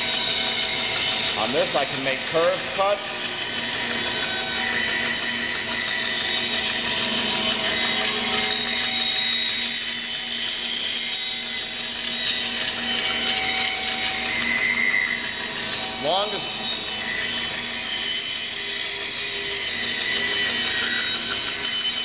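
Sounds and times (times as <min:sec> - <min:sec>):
band saw motor hum: 0:00.0 - 0:22.0.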